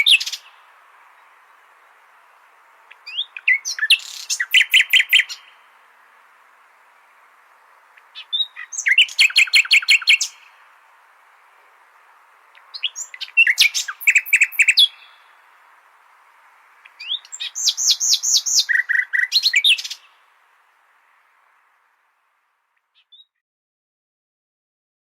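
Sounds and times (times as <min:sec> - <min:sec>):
steady hiss: 0:00.0 - 0:22.9
nightingale singing: 0:00.0 - 0:23.4.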